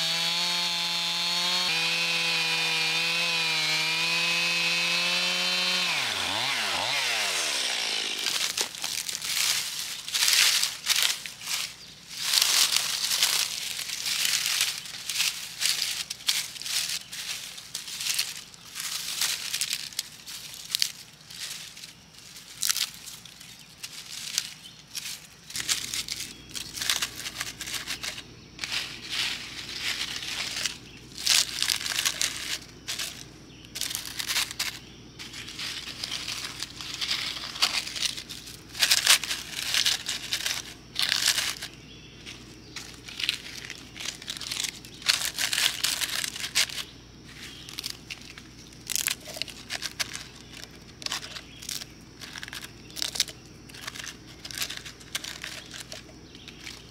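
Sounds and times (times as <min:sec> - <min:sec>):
dry leaves and bark crinkling: 0:00.0 - 0:56.9.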